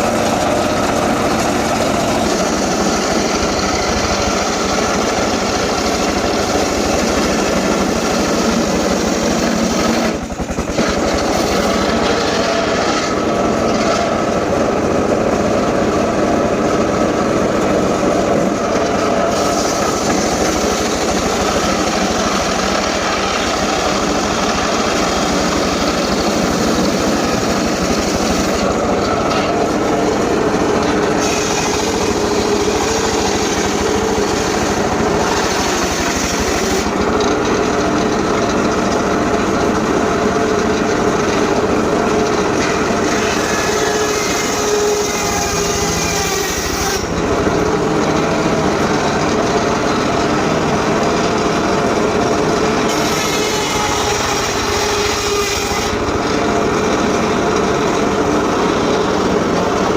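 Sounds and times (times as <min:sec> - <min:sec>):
engine saw cutting wood: 0:00.0 - 0:59.9.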